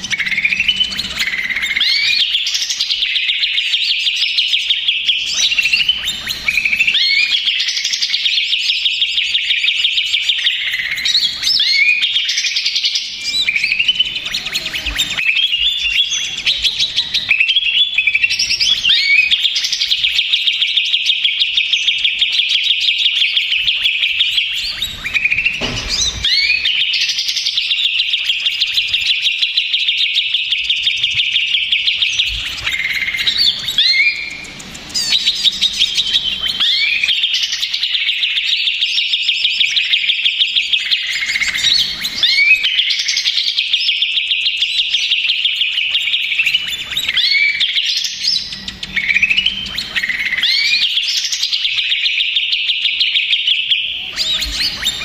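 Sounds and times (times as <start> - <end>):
bird singing rapid trills: 0.0 - 55.0.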